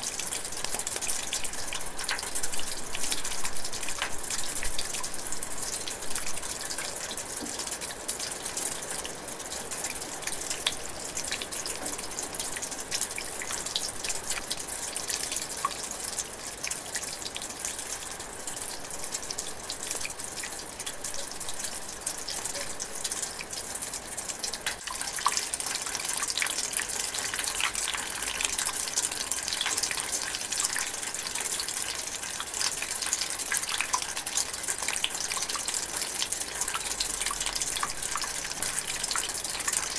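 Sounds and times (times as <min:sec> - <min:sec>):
light rain dripping: 0:00.0 - 0:39.9.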